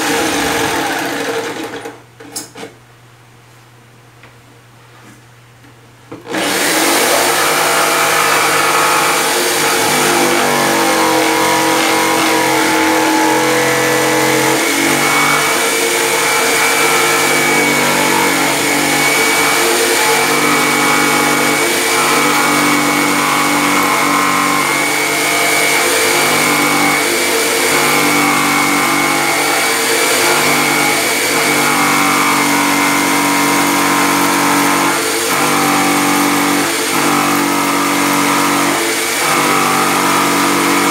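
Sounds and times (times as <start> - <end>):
jigsaw cutting wood panel: 0.0 - 2.5, 6.1 - 40.9.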